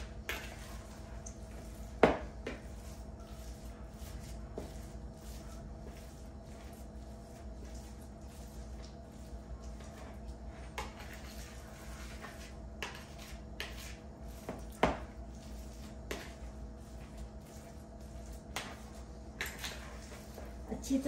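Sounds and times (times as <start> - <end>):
hands squishing food mixture: 0.0 - 21.0.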